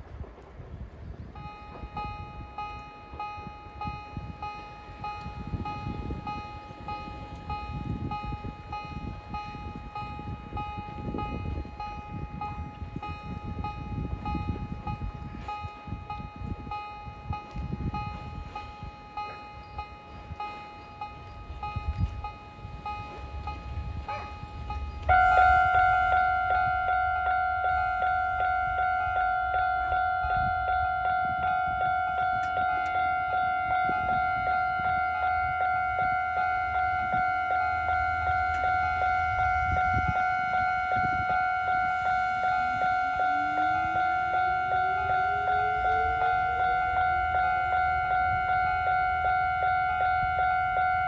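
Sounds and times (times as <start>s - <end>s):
level crossing bell ringing: 1.4s - 51.0s.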